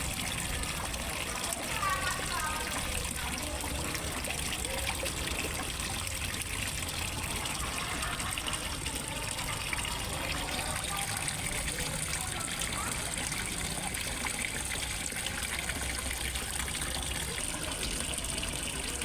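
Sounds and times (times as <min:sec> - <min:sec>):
water splashing into pond: 0:00.0 - 0:19.0.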